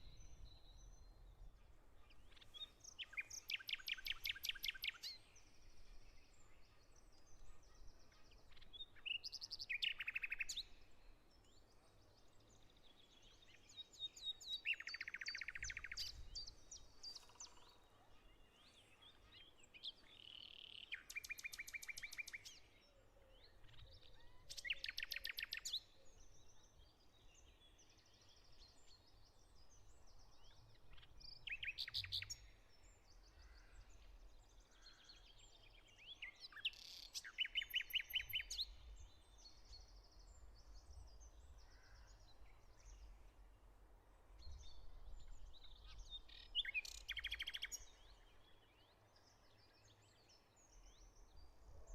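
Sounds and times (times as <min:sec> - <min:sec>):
faint bird chirps: 0:00.0 - 0:43.5, 0:44.4 - 0:51.9
songbirds singing trilled phrases: 0:00.0 - 0:43.6, 0:44.4 - 0:51.9.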